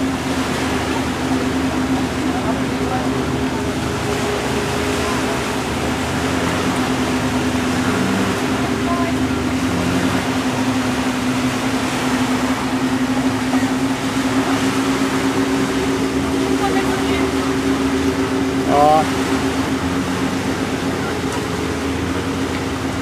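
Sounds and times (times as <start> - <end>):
motorboat engine humming: 0.0 - 23.0.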